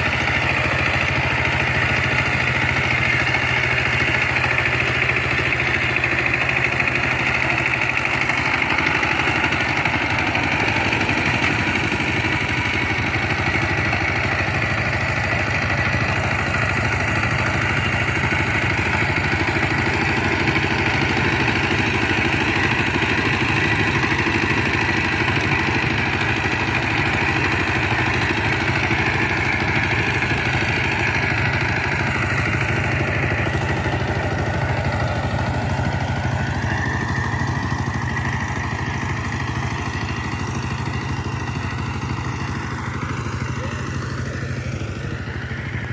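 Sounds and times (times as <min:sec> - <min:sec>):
diesel engine running steadily: 0:00.0 - 0:45.9.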